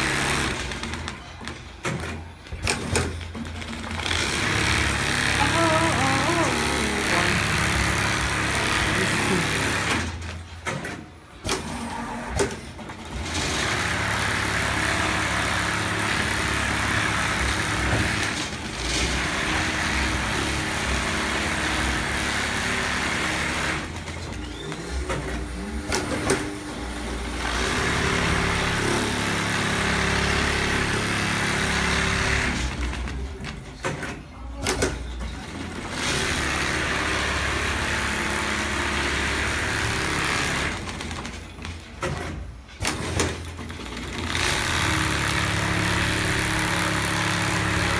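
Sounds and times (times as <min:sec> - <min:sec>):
sewing machine rattling: 0:00.0 - 0:11.8, 0:12.4 - 0:47.9.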